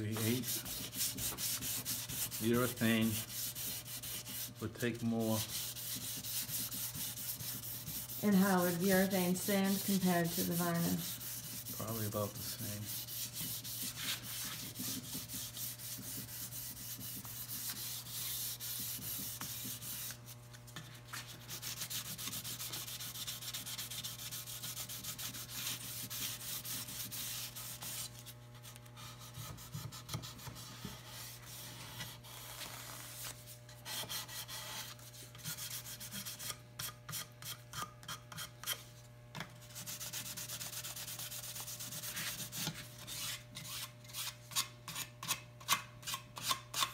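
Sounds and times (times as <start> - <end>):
sandpaper rubbing on wood: 0.1 - 20.3, 21.1 - 36.6, 39.7 - 44.4.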